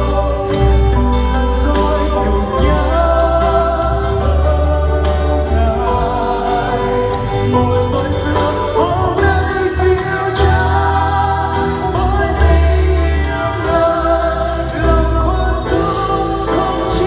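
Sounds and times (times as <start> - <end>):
instrumental accompaniment: 0.0 - 17.0
men and woman singing together: 0.0 - 17.0.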